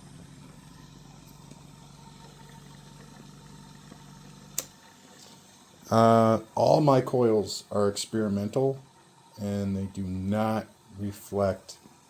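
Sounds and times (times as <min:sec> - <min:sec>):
motor choppy hum: 0:00.0 - 0:12.0.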